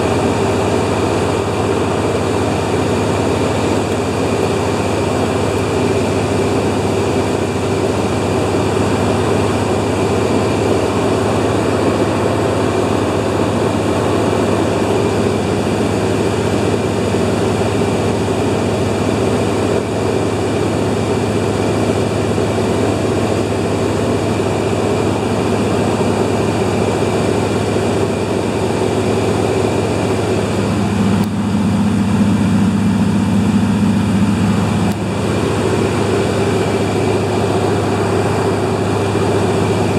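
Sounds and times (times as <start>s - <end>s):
floatplane engine and propeller drone: 0.0s - 39.9s.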